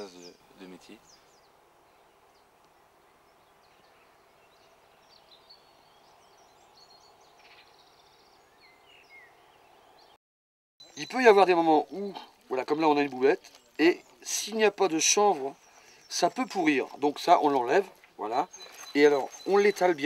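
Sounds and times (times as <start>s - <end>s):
distant bird chirps: 0.0s - 10.2s, 10.8s - 20.0s.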